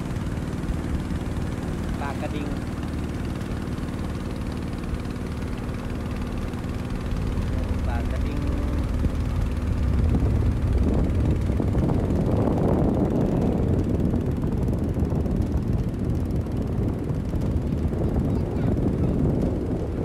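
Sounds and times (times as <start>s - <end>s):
boat engine running: 0.0s - 20.0s
wind noise on microphone: 0.0s - 20.0s.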